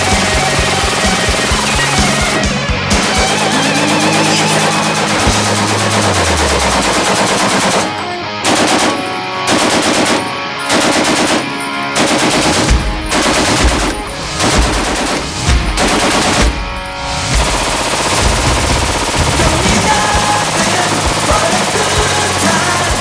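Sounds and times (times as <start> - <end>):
machine gun firing: 0.0 - 23.0.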